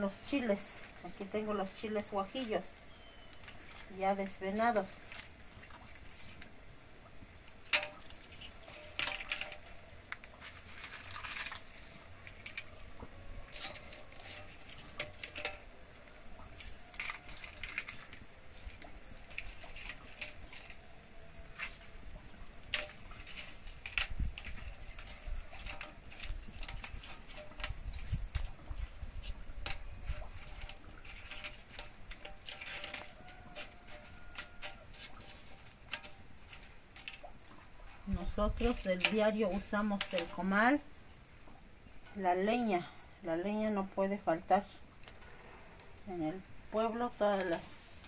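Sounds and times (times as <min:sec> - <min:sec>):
chiles crackling on a griddle: 0:00.0 - 0:48.0.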